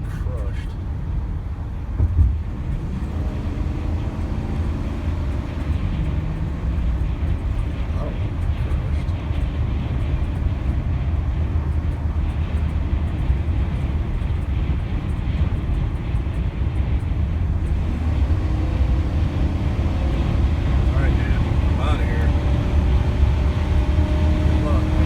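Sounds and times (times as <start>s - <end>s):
road and wind noise in car: 0.0s - 25.0s.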